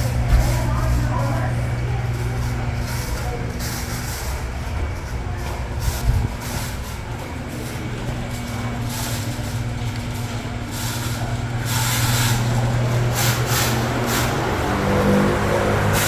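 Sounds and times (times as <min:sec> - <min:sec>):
fan motor humming: 0:00.0 - 0:16.0
rush of air from fan: 0:00.0 - 0:16.0.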